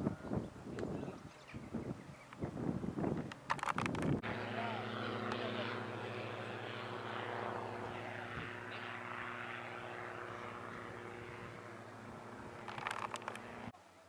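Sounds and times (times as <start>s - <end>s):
propeller aircraft engine droning: 0.0s - 13.8s.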